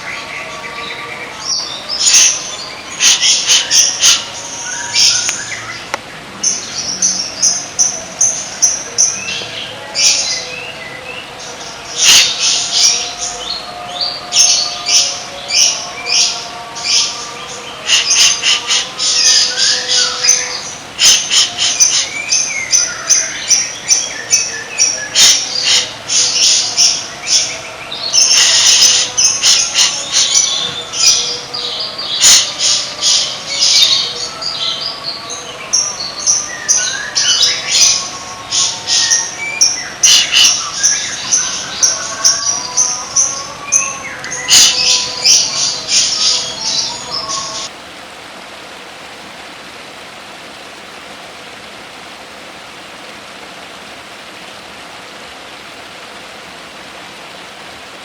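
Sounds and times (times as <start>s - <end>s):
songbird chattering song: 0.0s - 47.7s.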